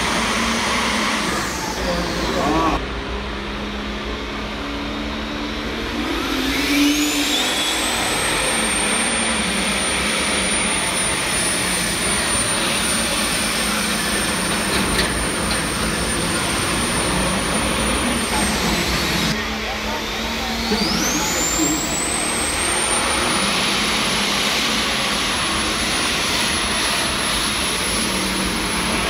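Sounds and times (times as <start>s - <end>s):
tractor engine with high whine: 0.0s - 29.0s.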